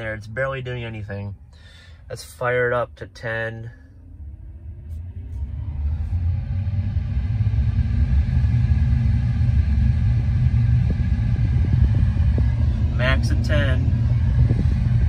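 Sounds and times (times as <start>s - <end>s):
car blower fan rushing air: 0.0s - 15.0s.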